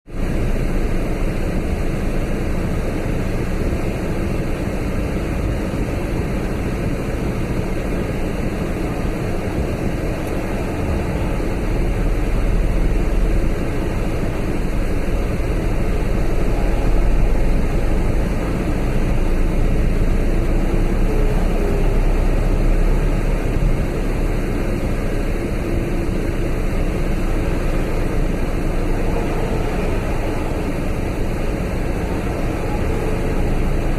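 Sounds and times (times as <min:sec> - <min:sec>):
vehicle and road noise: 0:00.0 - 0:33.9.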